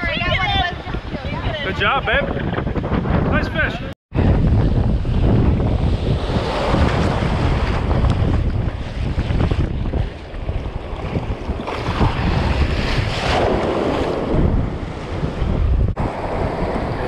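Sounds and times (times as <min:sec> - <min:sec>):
ocean surf washing: 0:00.0 - 0:17.0
wind rumbling on microphone: 0:00.0 - 0:17.0.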